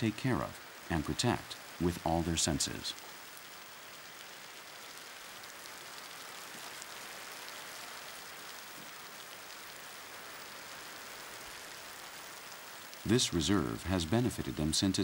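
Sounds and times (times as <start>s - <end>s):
scattered raindrops: 0.0s - 15.0s
steady rain hiss: 0.0s - 15.0s.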